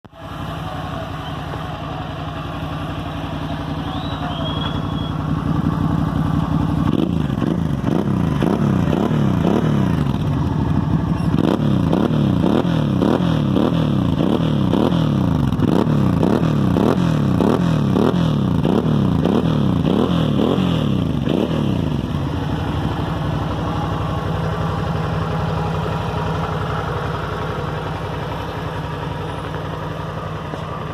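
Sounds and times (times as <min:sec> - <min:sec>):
motorcycle engine revving and idling: 0:00.0 - 0:30.9.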